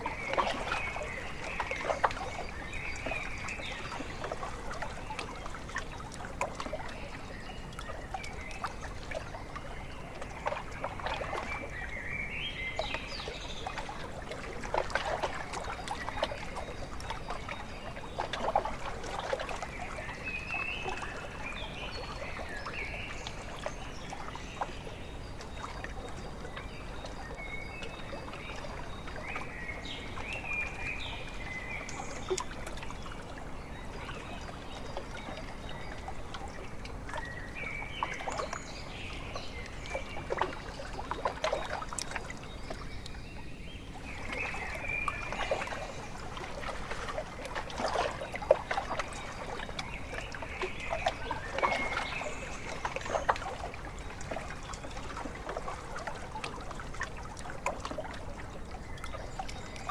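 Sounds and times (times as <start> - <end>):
small waves lapping and splashing: 0.0 - 59.9.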